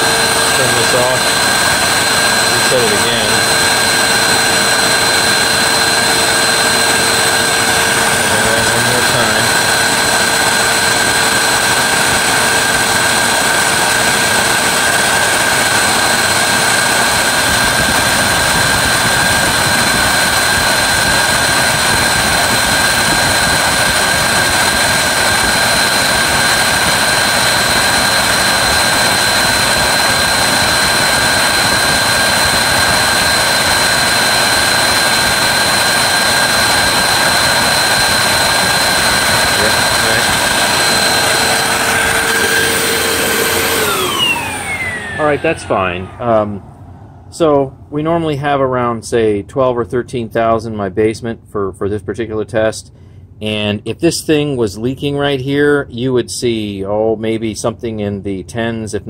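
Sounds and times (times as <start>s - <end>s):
vacuum cleaner running: 0.0s - 48.2s.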